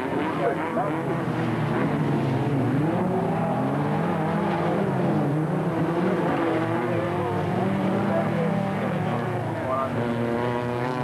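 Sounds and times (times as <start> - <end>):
racing car engines revving past: 0.0 - 11.0.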